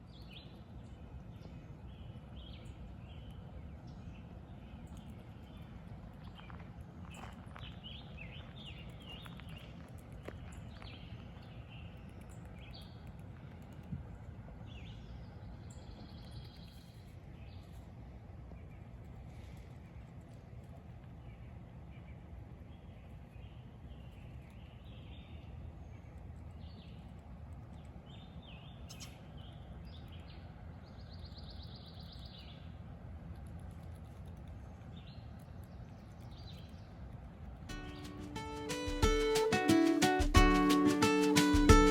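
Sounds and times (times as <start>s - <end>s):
songbirds chirping: 0.0s - 32.8s, 34.4s - 41.9s
low outdoor rumble: 0.0s - 40.9s.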